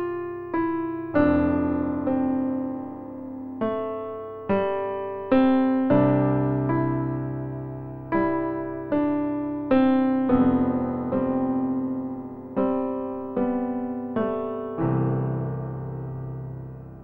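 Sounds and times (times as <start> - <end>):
slow piano keyboard melody: 0.0 - 17.0.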